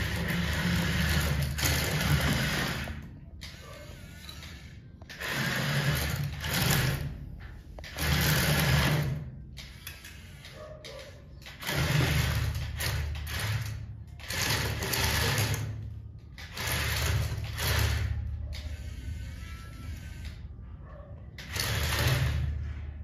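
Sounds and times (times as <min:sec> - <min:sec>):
toy motor and gears whirring: 0:00.0 - 0:23.0.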